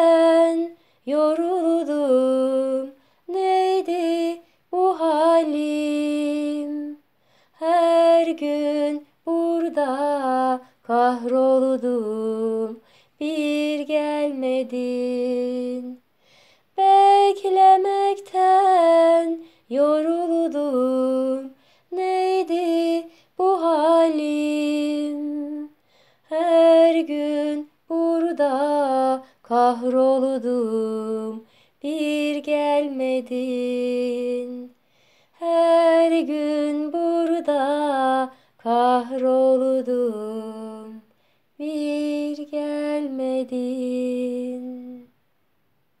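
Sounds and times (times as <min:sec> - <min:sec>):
woman singing unaccompanied: 0:00.0 - 0:16.1, 0:16.7 - 0:45.2.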